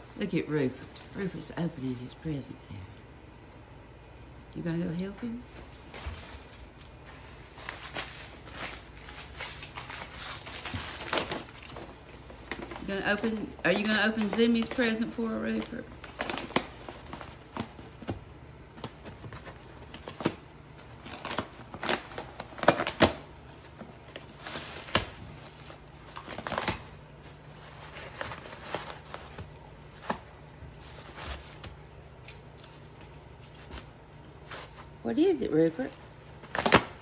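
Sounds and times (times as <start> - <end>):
paper crinkling and ripping: 5.6 - 17.8, 18.8 - 35.0, 35.6 - 37.0.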